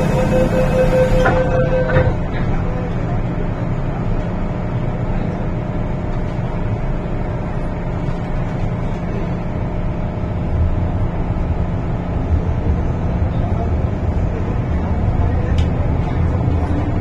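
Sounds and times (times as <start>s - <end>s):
train equipment humming: 0.0s - 17.0s
train rumble pulling away: 0.0s - 17.0s.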